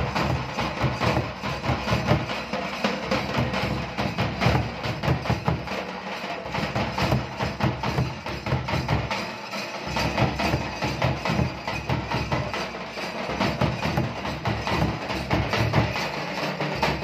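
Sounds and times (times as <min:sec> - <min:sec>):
double-headed drum beats: 0:00.0 - 0:17.0
kettle drums beaten with sticks: 0:00.0 - 0:17.0.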